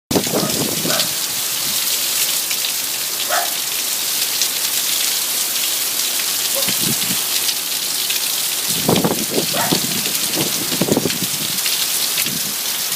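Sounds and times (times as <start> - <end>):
heavy rain pouring: 0.1 - 12.9
raindrops pattering on a surface: 0.1 - 12.9.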